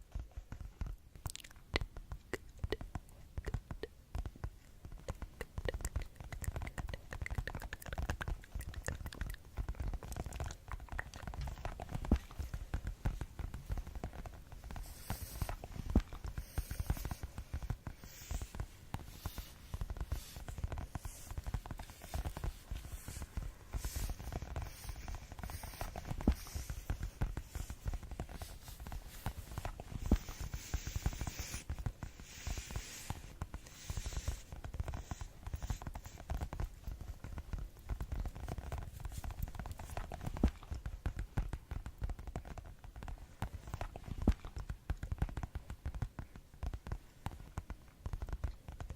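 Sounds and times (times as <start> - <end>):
fast tapping on objects: 0.0 - 48.9.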